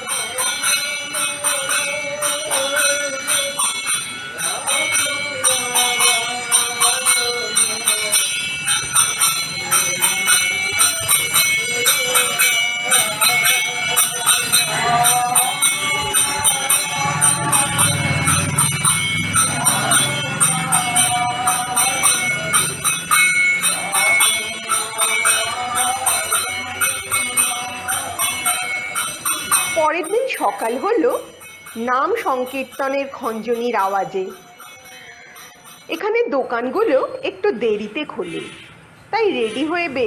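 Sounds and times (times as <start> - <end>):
voices chanting a melody: 0.0 - 35.8.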